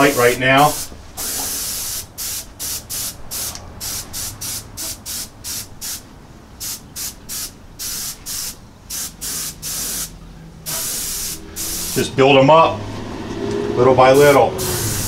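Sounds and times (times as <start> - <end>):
airbrush spraying in bursts: 0.0 - 10.1, 10.7 - 12.1, 14.2 - 15.0.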